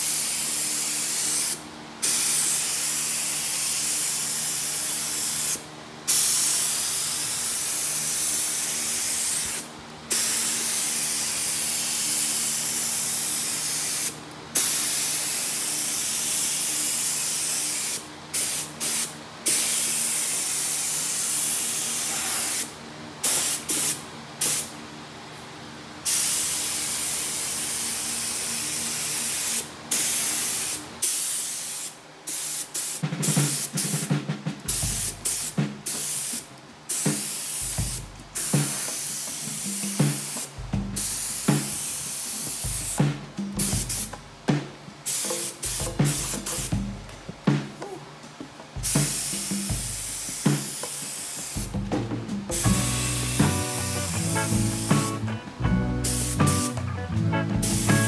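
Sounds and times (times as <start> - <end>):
paint spray gun hissing: 0.0 - 24.8, 26.0 - 34.1, 34.7 - 43.0, 43.6 - 44.1, 45.0 - 46.8, 48.8 - 51.8, 52.6 - 56.8, 57.5 - 58.0.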